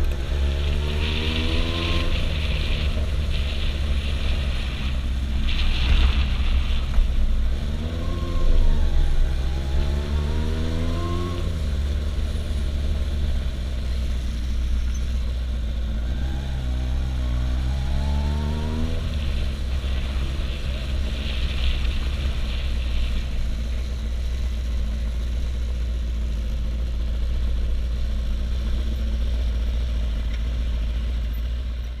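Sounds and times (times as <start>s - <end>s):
low wind rumble: 0.0s - 30.9s
motorcycle engine running: 0.0s - 32.0s.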